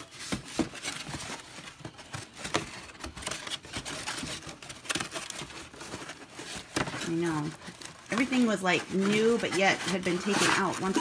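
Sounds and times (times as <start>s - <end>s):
cardboard box rustling: 0.0s - 11.0s.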